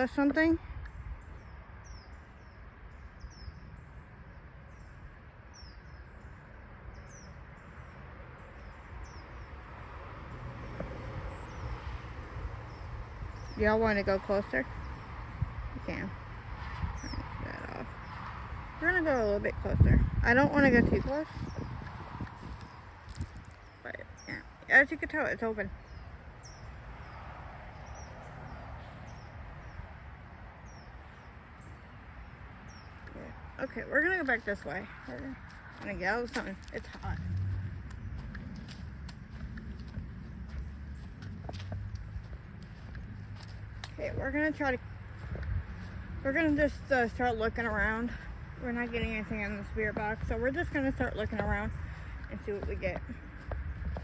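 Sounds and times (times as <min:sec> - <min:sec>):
small birds chirping: 0:00.0 - 0:09.8, 0:10.6 - 0:11.8, 0:12.6 - 0:54.0
low outdoor rumble: 0:00.0 - 0:54.0.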